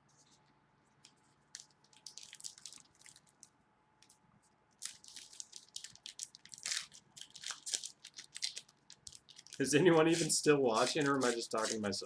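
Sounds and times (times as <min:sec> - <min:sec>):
card wrappers crinkling: 0:01.0 - 0:12.0.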